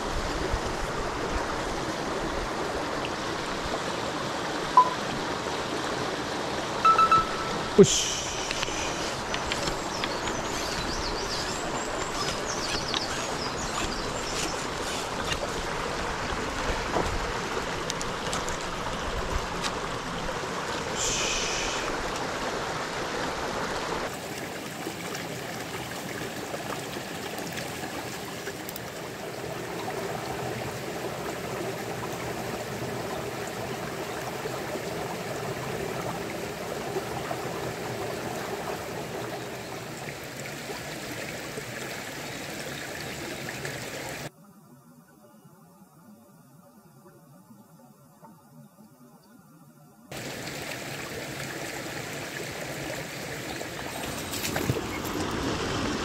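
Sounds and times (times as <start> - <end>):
creek rushing over rocks: 0.0 - 44.3, 50.1 - 56.0.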